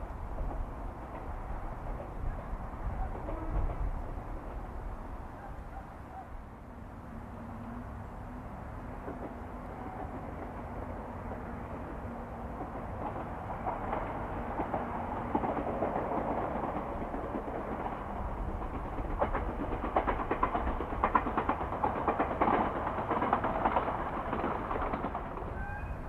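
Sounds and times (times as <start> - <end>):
wheels clicking over rail joints: 0.0 - 5.0, 9.0 - 26.0
train rumbling past: 0.0 - 26.0.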